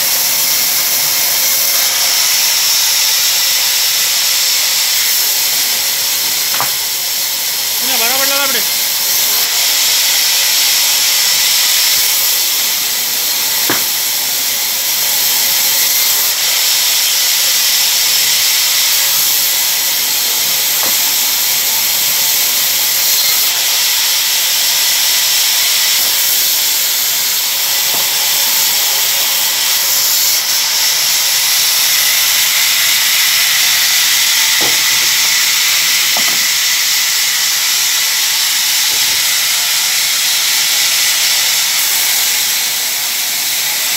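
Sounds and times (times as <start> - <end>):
band saw cutting wood: 0.0 - 43.9.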